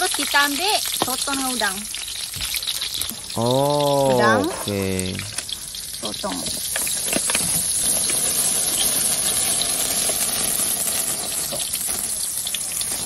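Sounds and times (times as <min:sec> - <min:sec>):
hot oil sizzling in a wok: 0:00.0 - 0:13.0.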